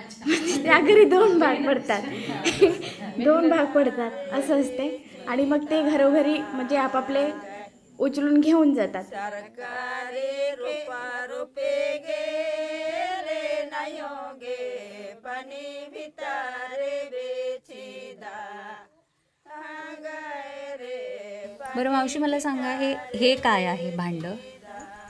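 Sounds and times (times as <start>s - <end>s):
woman singing unaccompanied: 0.2s - 25.0s.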